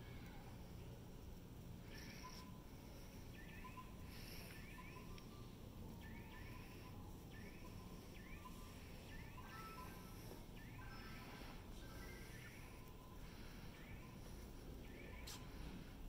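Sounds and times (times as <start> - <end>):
low steady hum: 0.0 - 16.0
faint high chirps: 1.8 - 16.0.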